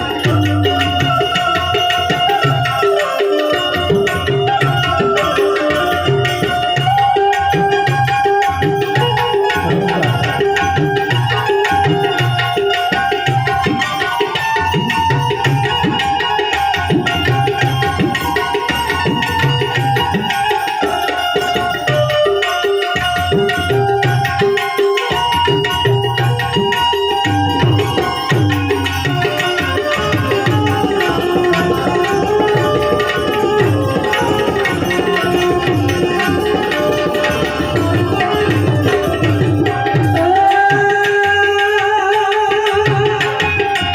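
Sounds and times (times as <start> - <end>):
harmonium melody: 0.0 - 43.9
tabla beat: 0.0 - 43.9.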